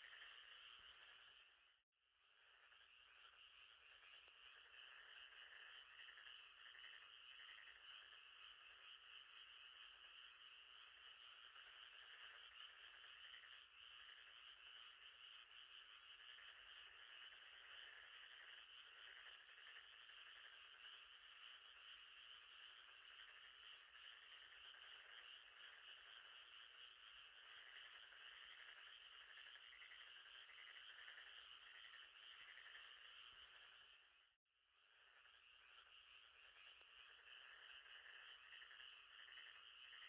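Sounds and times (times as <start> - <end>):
frogs trilling: 0.0 - 40.0.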